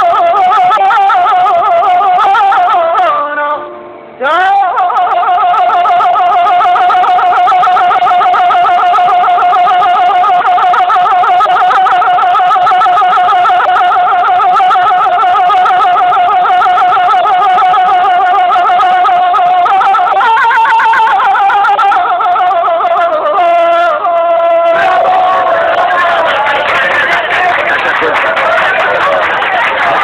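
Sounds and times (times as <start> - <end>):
man singing high note with vibrato: 0.0 - 30.0.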